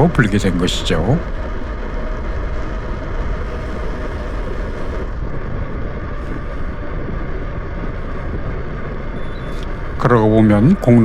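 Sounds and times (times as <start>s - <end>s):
bicycle road noise: 0.0s - 11.0s
rushing wind: 0.0s - 11.0s.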